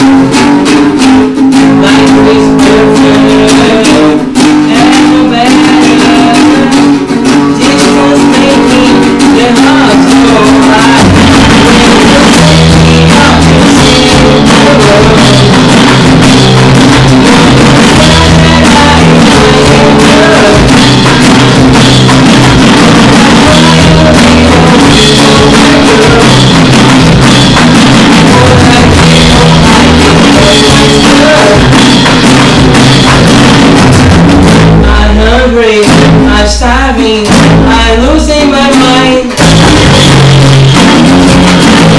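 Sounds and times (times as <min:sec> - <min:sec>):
acoustic guitar strumming: 0:00.0 - 0:41.9
electric bass: 0:00.0 - 0:41.9
electronic drum kit beat: 0:00.0 - 0:41.9.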